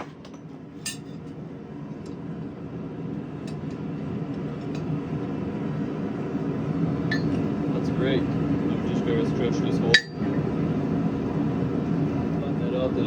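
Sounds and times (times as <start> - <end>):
forge low rumble: 1.3 - 13.0.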